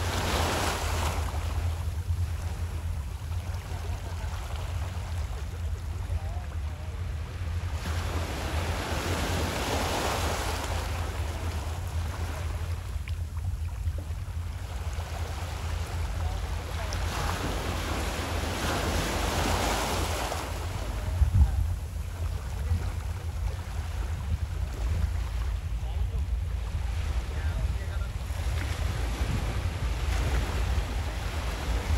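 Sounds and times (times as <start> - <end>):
small waves washing in: 0.0 - 31.9
wind rumble on microphone: 0.0 - 31.9.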